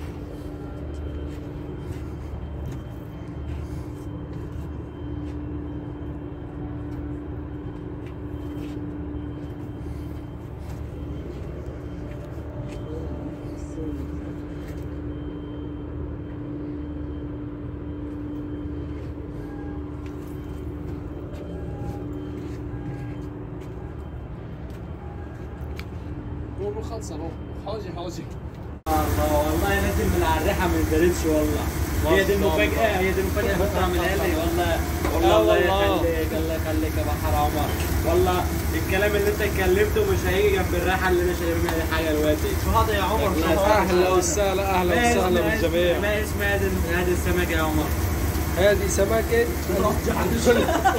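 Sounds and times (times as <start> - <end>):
ship machinery humming: 0.0 - 27.6, 28.6 - 50.9.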